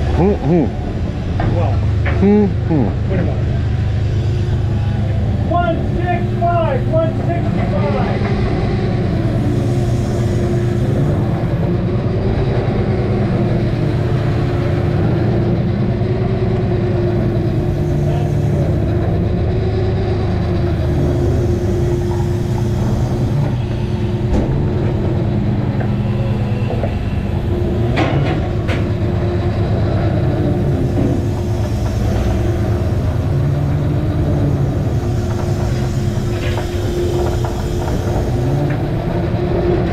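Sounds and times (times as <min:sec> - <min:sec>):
diesel engine droning: 0:00.0 - 0:39.9
hydraulics humming: 0:00.0 - 0:39.9.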